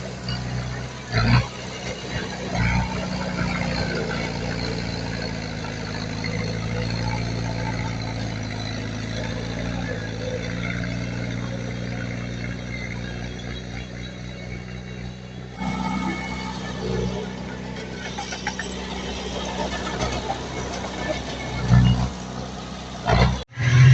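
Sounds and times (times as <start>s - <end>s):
diesel engine droning: 0.0s - 23.9s.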